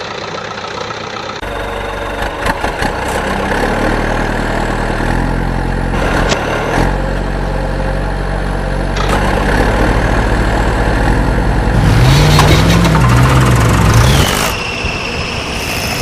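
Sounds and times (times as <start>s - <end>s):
vehicle engine idling: 0.0s - 14.8s.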